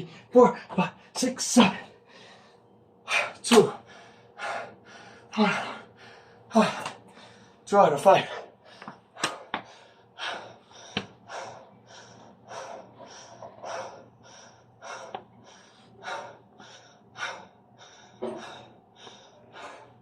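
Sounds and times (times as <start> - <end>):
man breathing hard: 1.7 - 20.0.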